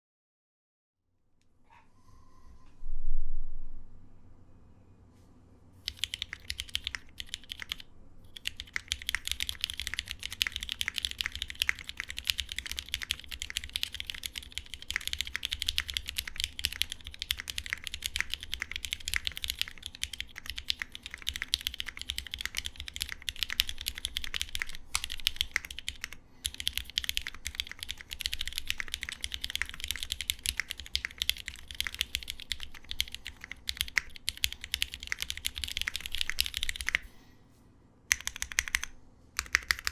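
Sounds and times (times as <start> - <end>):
mechanical keyboard typing: 5.8 - 37.1, 38.1 - 39.9.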